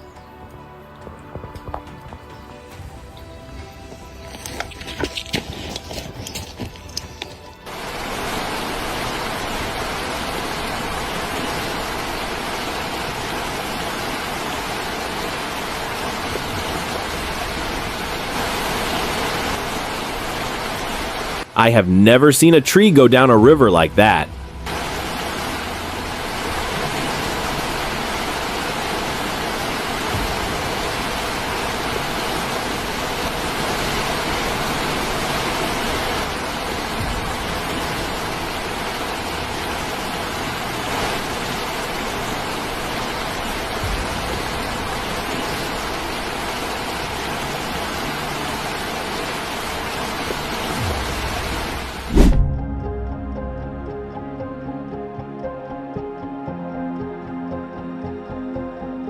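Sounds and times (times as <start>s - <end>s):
fast-flowing river water rushing: 1.0s - 52.4s.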